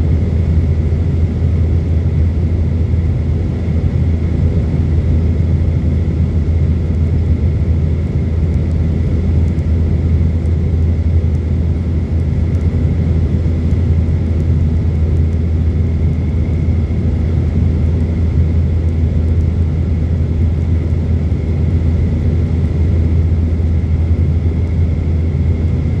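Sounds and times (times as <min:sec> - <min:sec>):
faint high whine: 0:00.0 - 0:26.0
jet engine low rumble: 0:00.0 - 0:26.0.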